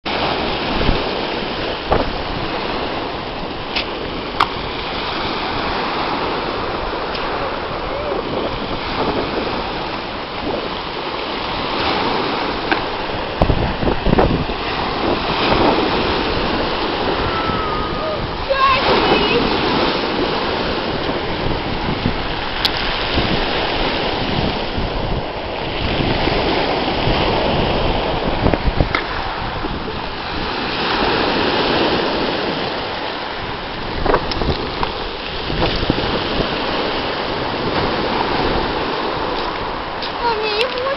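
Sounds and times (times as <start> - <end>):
surf breaking on pebble beach: 0.1 - 40.9
wind rumbling on microphone: 0.1 - 40.9.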